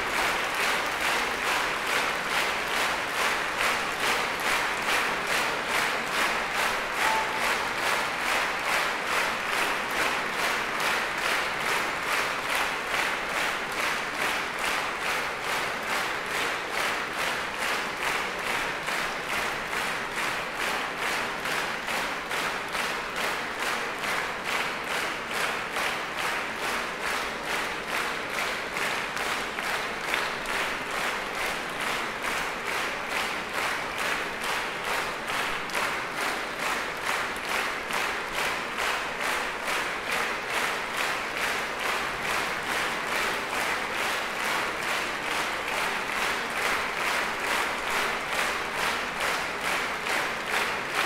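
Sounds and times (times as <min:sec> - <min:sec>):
audience clapping in unison: 0:00.0 - 0:51.0.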